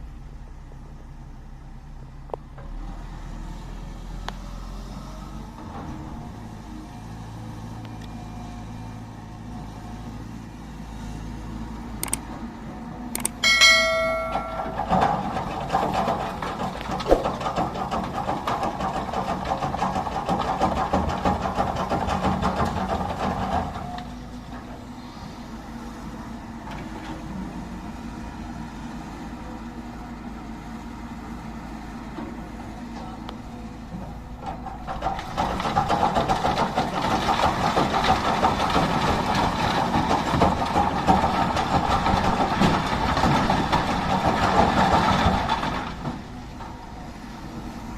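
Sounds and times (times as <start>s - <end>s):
heavy diesel engines running: 0.0s - 47.9s.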